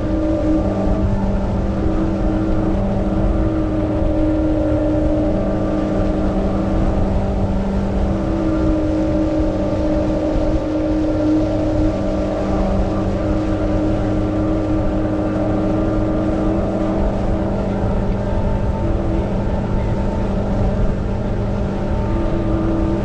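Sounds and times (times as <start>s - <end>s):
continuous rushing noise: 0.0s - 23.0s
electric motor hum: 0.0s - 23.0s.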